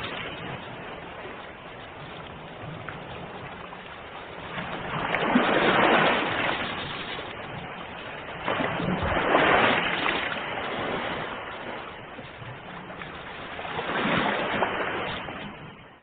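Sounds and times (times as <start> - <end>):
ocean waves breaking on shore: 0.0 - 16.0.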